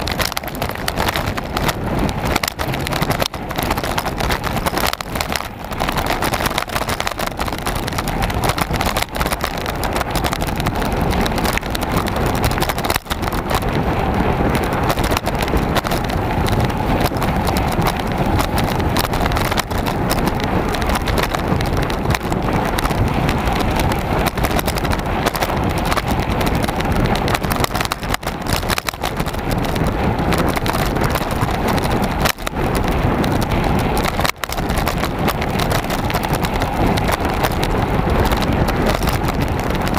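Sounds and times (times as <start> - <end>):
mountain bike rattling over rough track: 0.0 - 39.9
rushing wind: 0.0 - 39.9.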